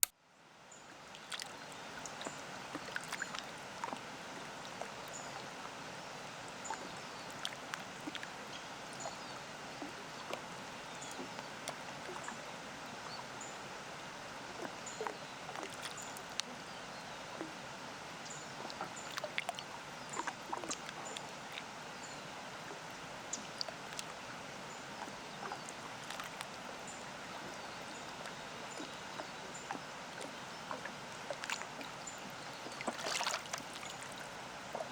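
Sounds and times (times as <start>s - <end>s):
small waves lapping: 0.7s - 34.9s.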